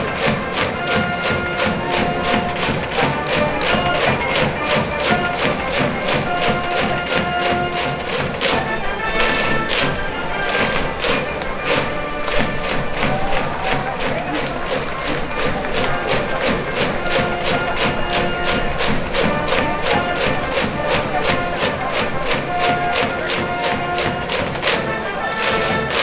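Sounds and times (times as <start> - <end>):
brass horns playing: 0.0 - 26.0
fast drum beat: 0.0 - 26.0.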